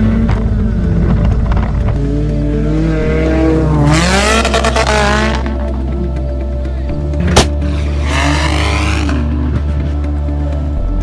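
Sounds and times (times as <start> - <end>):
background music with bass line: 0.0 - 11.0
car engine driving off-road: 0.0 - 11.0.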